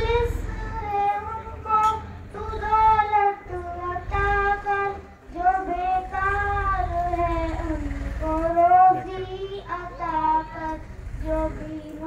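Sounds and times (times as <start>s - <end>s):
girl singing into a microphone: 0.0s - 12.0s.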